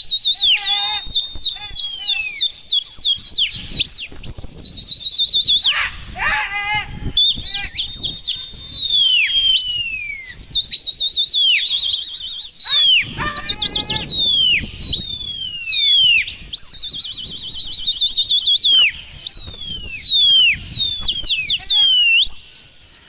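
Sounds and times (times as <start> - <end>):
high whistles and trills: 0.0 - 23.0.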